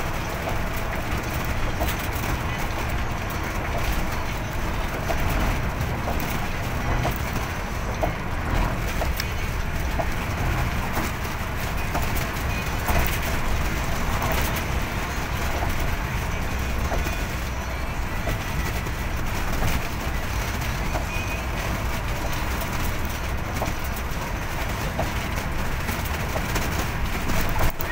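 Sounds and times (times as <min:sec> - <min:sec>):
engine and tyre rumble: 0:00.0 - 0:27.9.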